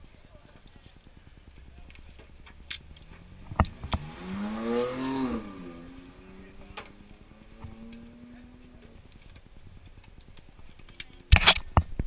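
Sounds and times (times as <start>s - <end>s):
car engine revving and idling: 0.0s - 10.6s.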